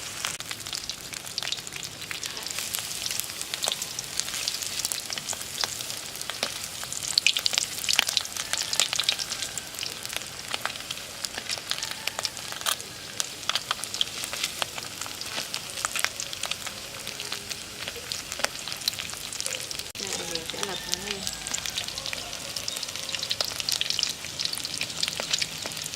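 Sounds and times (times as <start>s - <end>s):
fish deep-frying in oil: 0.0s - 25.9s
oil popping and crackling: 0.0s - 25.9s.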